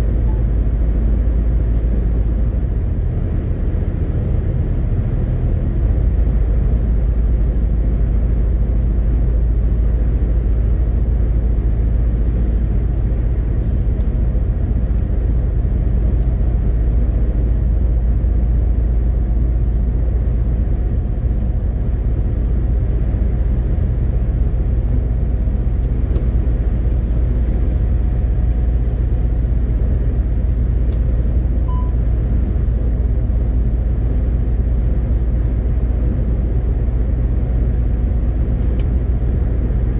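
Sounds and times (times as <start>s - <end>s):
road noise: 0.0s - 39.9s
truck diesel engine running: 0.0s - 39.9s.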